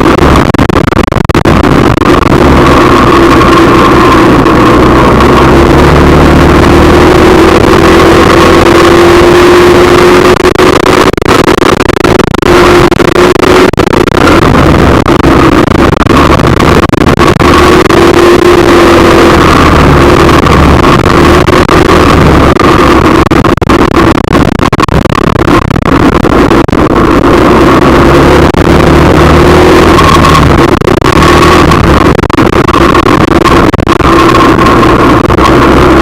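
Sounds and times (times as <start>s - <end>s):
car engine and road noise: 0.0s - 36.0s
hum drifting in pitch: 0.0s - 36.0s.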